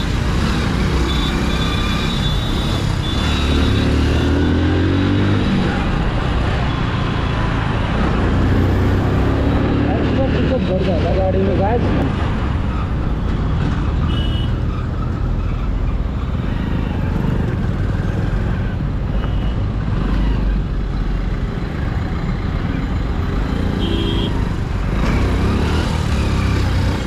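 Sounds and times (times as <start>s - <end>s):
road and wind noise: 0.0s - 27.0s.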